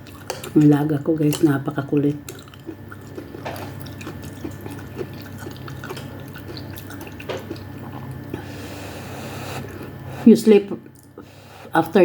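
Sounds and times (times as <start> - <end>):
low steady hum: 0.0 - 12.0
slurping and dripping soup: 1.4 - 11.8.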